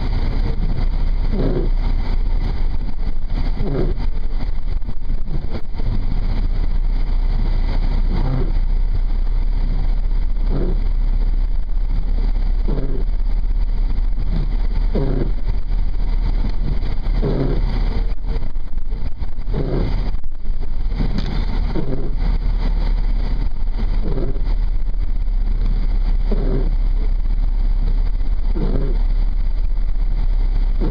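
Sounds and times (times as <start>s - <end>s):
engine and road drone in cabin: 0.0s - 30.9s.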